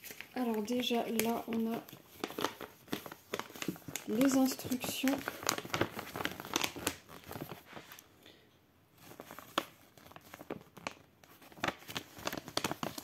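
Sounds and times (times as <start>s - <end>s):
paper crinkling and rustling: 0.0s - 8.1s, 9.0s - 13.0s.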